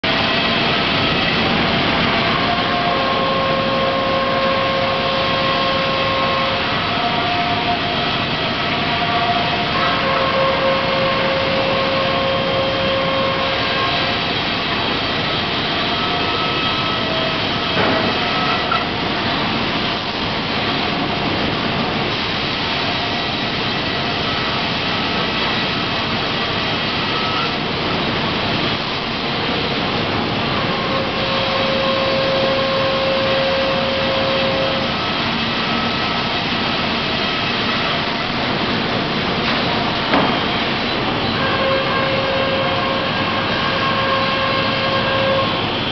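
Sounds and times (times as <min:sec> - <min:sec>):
machine whine: 0:00.0 - 0:45.9
sawmill machinery din: 0:00.0 - 0:45.9.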